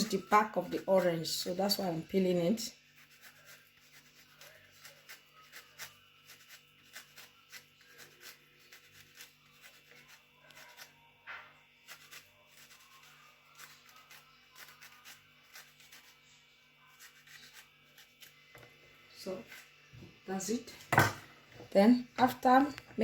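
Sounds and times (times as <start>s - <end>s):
orange being peeled by hand: 0.0s - 21.0s.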